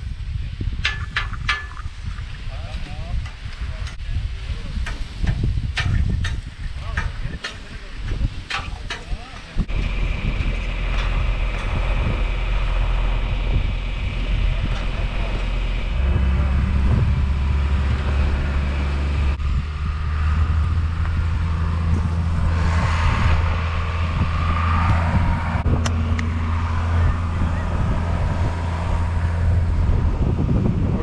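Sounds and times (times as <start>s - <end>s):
wind buffeting microphone: 0.0s - 31.0s
tractor diesel engine running: 5.0s - 31.0s.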